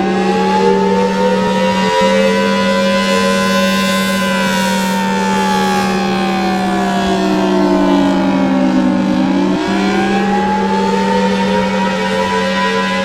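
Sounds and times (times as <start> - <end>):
tornado siren wailing: 0.0 - 13.0.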